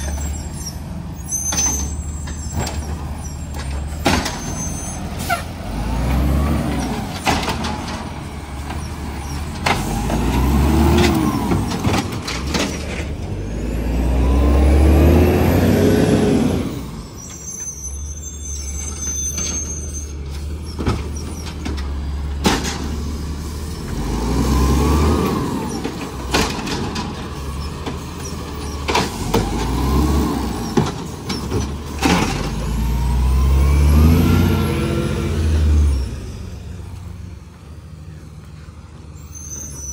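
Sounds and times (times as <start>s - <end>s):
garbage truck engine revving: 0.0s - 17.4s, 18.4s - 38.2s.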